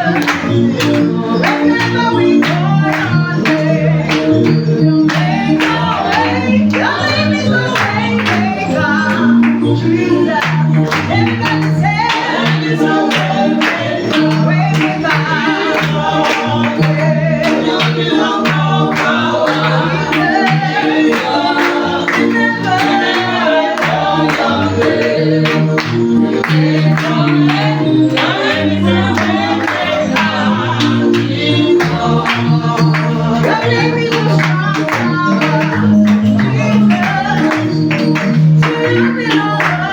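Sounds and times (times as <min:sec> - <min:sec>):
group singing gospel song: 0:00.0 - 0:39.9.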